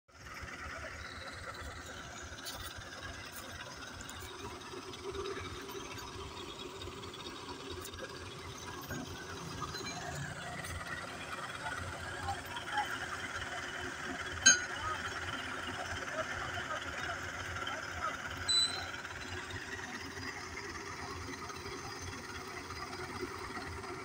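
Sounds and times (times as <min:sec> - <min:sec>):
diesel tractor engines rattling: 0:00.1 - 0:24.0.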